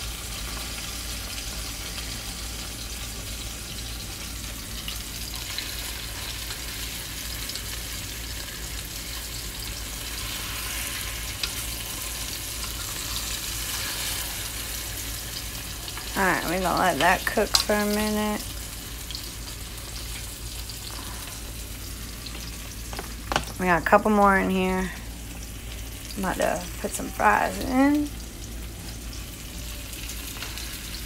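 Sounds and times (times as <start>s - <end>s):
meat frying in hot oil: 0.0s - 31.0s.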